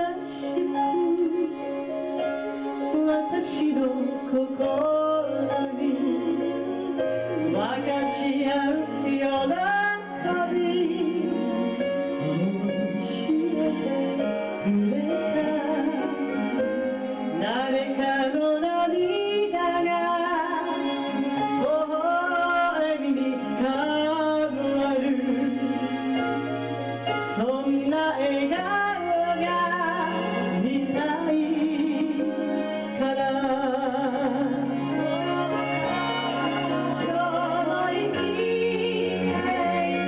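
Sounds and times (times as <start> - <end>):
instrumental accompaniment: 0.0 - 40.0.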